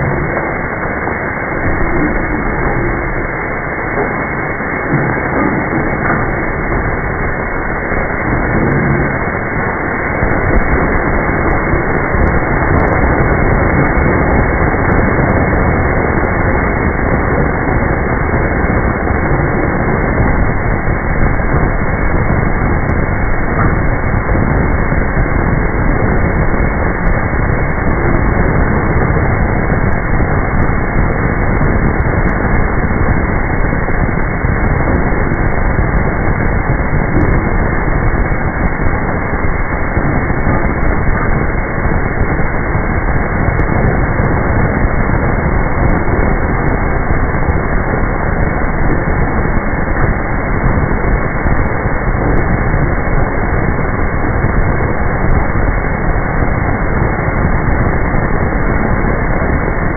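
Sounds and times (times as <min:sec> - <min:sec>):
forging machine running: 0:00.0 - 0:59.9.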